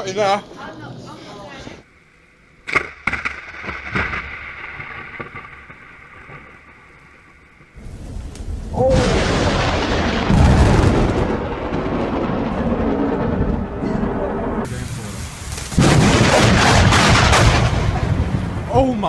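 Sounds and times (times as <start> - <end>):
rain: 2.7 - 19.0
thunder clap and rumbling: 2.7 - 19.0.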